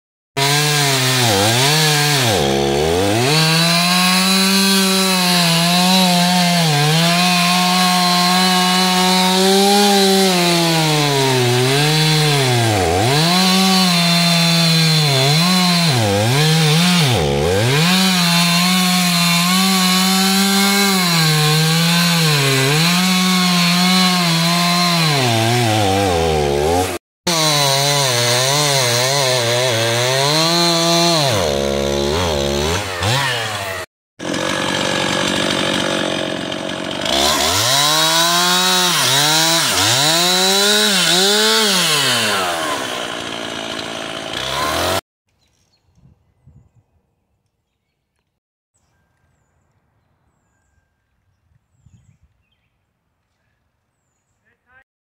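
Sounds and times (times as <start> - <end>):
chainsaw cutting wood: 0.4 - 45.0.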